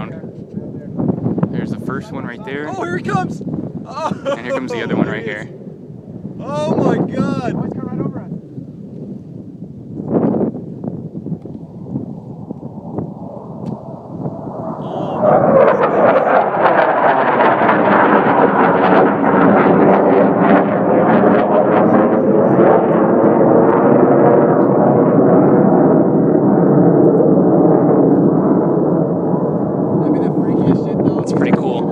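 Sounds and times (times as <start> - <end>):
jet roaring past: 0.0 - 31.9.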